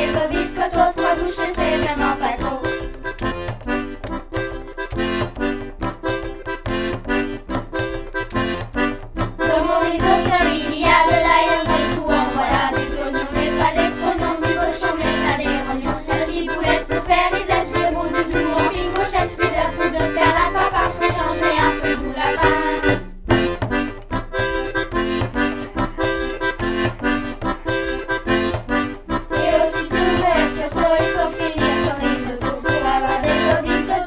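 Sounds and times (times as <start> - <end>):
accordion children's song: 0.0 - 34.0.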